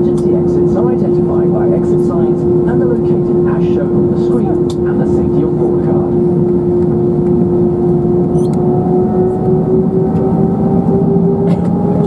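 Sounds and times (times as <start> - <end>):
jet engine rumble and whine: 0.0 - 12.0.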